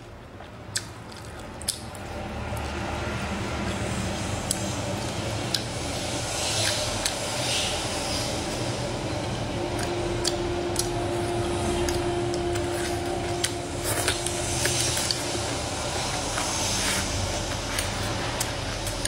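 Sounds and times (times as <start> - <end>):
person chewing food: 0.3 - 8.7, 9.6 - 19.0.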